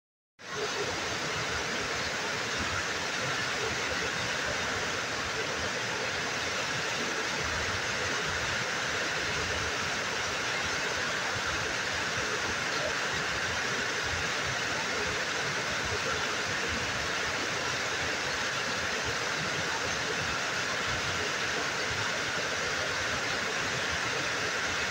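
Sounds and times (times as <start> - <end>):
waterfall rushing into pool: 0.4 - 24.9.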